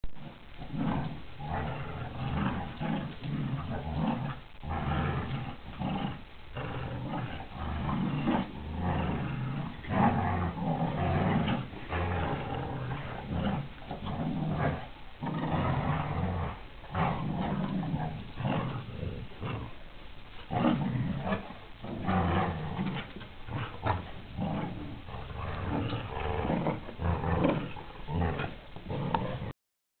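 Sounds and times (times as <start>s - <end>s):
dogs growling in play: 0.2s - 29.6s.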